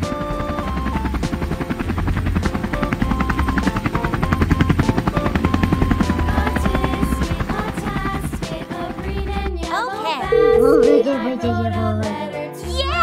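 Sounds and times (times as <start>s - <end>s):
light background music: 0.0s - 13.0s.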